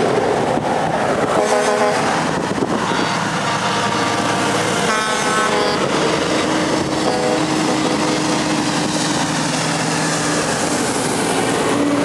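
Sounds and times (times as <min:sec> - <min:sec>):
diesel trucks driving past: 0:00.0 - 0:12.0.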